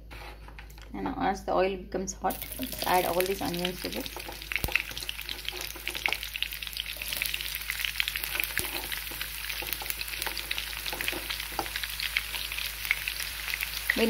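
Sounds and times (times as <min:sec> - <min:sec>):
onions sizzling in oil: 0:02.3 - 0:14.0.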